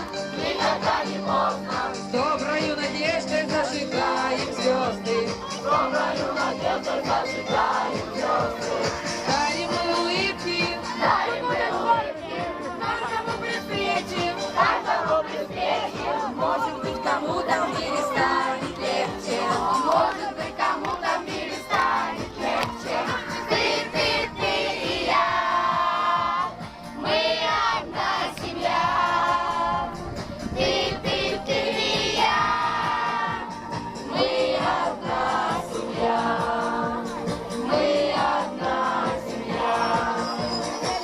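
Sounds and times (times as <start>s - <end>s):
group of voices singing: 0.0s - 41.0s.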